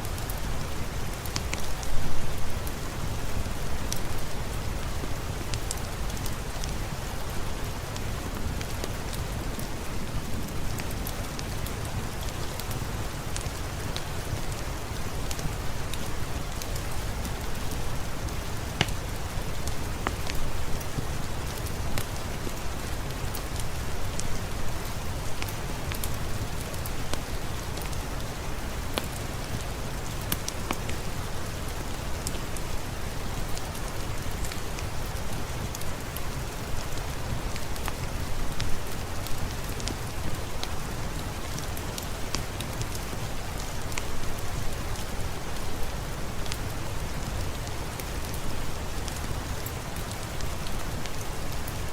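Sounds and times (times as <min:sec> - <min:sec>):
fireplace fire crackling: 0:00.0 - 0:51.9
steady rain falling: 0:00.0 - 0:51.9.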